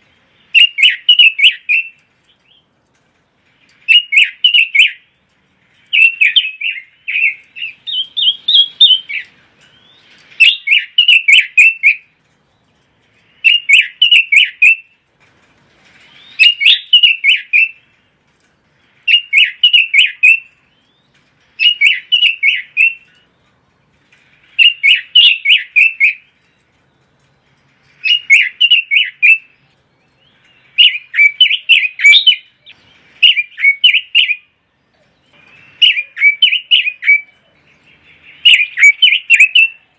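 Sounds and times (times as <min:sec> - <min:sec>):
bird singing warbling phrases: 0:00.2 - 0:02.7, 0:03.7 - 0:05.1, 0:05.8 - 0:15.0, 0:16.0 - 0:18.0, 0:19.0 - 0:23.3, 0:24.5 - 0:27.2, 0:27.9 - 0:39.9.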